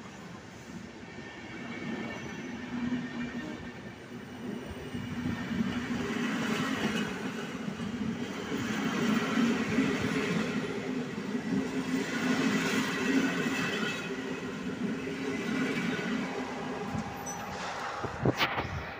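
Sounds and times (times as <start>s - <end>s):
train wheels rumbling on rails: 0.6s - 18.9s.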